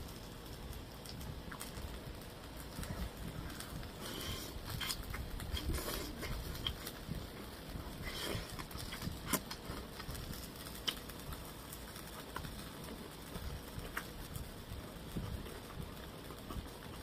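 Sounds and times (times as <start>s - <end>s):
close-up chewing and mouth noises: 0.0s - 17.0s.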